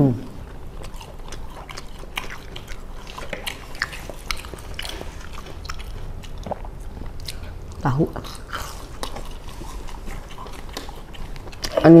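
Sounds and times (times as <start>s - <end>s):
chewing fried snacks: 0.4s - 12.0s
wet mouth clicks and smacks: 1.0s - 11.8s.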